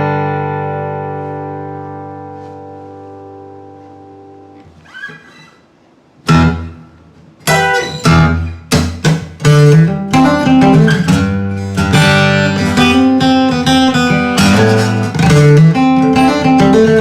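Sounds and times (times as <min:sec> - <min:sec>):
acoustic guitar chords strummed: 0:00.0 - 0:05.6, 0:06.2 - 0:17.0.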